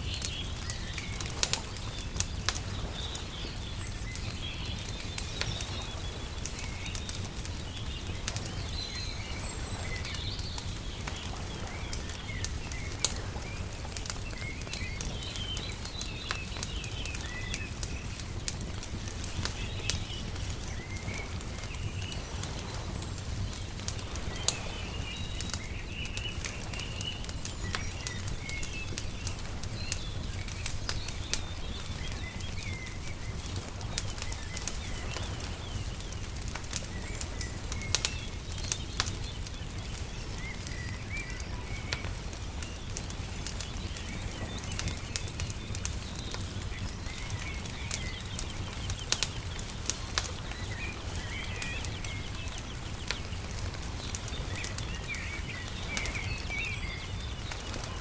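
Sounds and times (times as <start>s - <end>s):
small birds chirping: 0.0s - 58.0s
wood fire crackling and popping: 0.0s - 58.0s.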